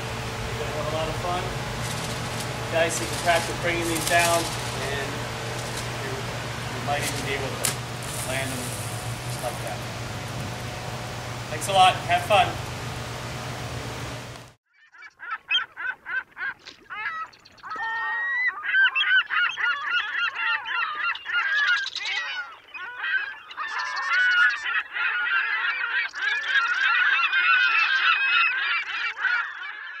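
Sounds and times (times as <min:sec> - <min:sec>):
geese honking: 0:00.0 - 0:14.4, 0:17.8 - 0:30.0.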